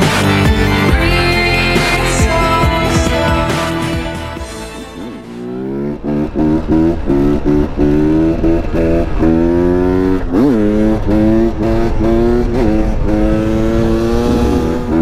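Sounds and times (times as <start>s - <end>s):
dirt bike engine revving: 1.6s - 15.0s.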